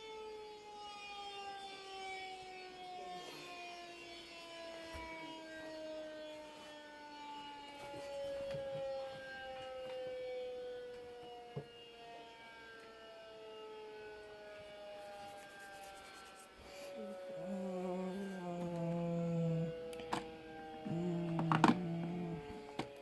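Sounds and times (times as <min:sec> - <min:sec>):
siren winding down: 0:00.0 - 0:23.0.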